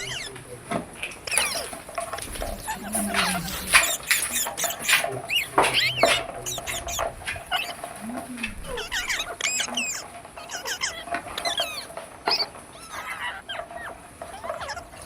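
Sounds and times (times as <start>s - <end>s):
parrot squeaking and chirping: 0.0s - 15.0s.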